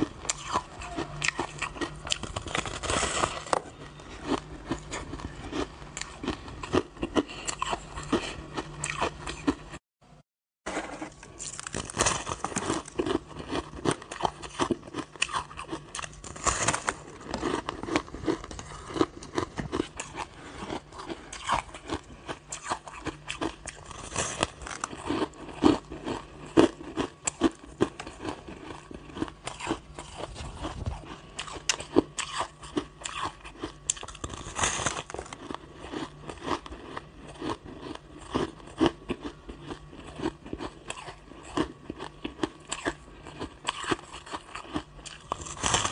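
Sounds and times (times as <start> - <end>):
crunching and chewing ice: 0.0 - 9.8, 10.7 - 45.9.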